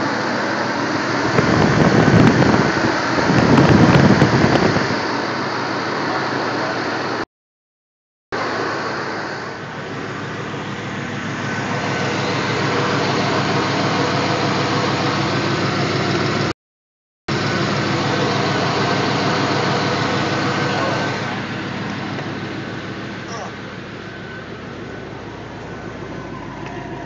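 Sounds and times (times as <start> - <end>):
car engine running: 0.0 - 7.2, 8.4 - 16.5, 17.3 - 27.0.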